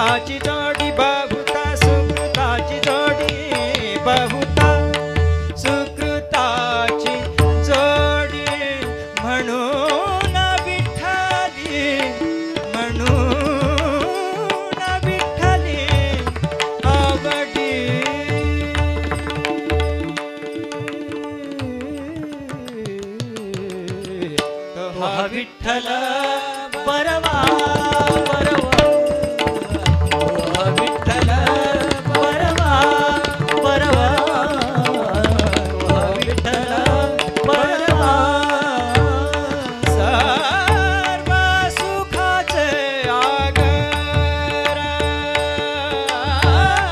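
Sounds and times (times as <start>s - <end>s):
hand drums: 0.0s - 7.8s, 13.0s - 24.5s, 27.2s - 42.4s, 43.4s - 46.9s
harmonium drone: 0.0s - 46.9s
man singing: 0.0s - 46.9s.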